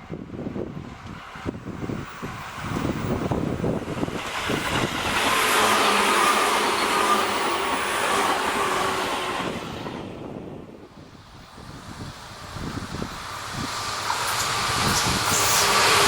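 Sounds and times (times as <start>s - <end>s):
electric train passing on rails: 0.0s - 16.0s.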